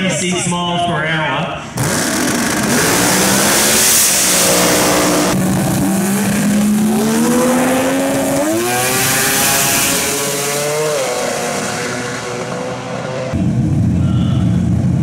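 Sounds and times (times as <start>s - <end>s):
car engine at full throttle: 1.7s - 14.0s.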